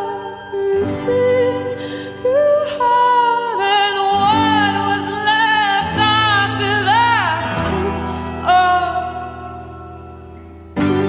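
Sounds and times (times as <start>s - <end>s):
woman singing with vibrato: 0.0s - 10.0s
acoustic instrumental chords: 0.0s - 11.0s.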